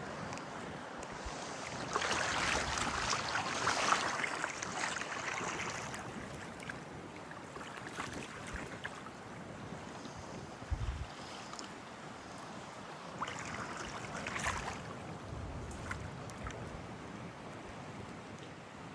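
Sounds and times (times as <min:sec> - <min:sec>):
rushing water: 0:00.0 - 0:18.9
wind: 0:00.0 - 0:18.9.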